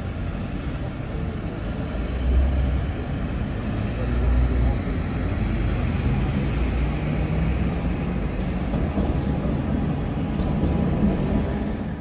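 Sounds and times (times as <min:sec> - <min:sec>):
street traffic: 0:00.0 - 0:12.0
tram rumbling on rails: 0:00.0 - 0:12.0.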